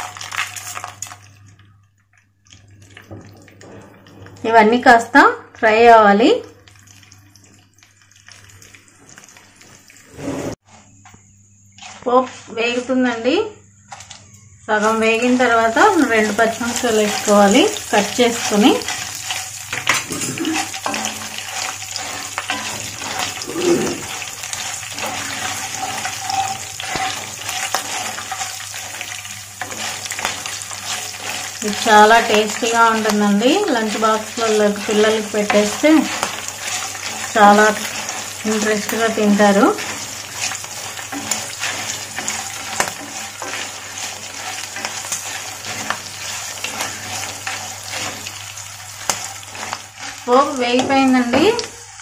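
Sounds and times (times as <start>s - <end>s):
oil sizzling with small crackles: 0.0s - 52.0s
spatula stirring in a pan: 6.7s - 13.2s, 14.8s - 52.0s.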